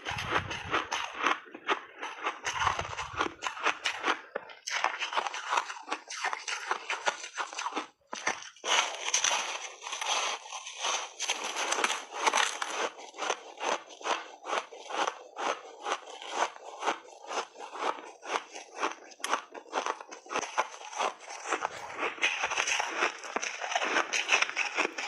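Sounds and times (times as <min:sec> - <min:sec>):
person chewing crunchy ice: 0:00.0 - 0:25.0.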